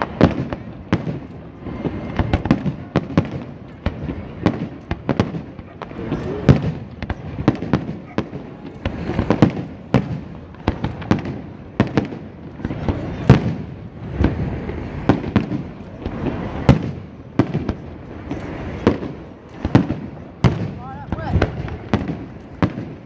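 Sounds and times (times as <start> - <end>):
fireworks bursting with bangs: 0.0 - 23.0.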